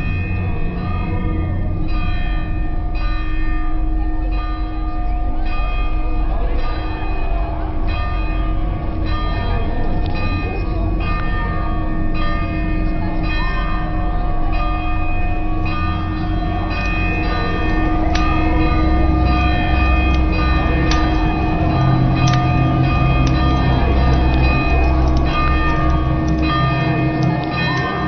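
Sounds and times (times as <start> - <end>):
large church bell tolling: 0.0 - 28.0
steady low rumble: 0.0 - 28.0.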